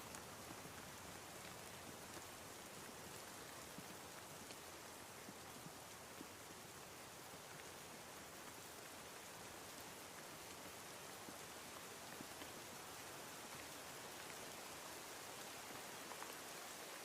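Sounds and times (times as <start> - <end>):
faint rain falling: 0.0 - 17.0
raindrops ticking: 0.0 - 17.0.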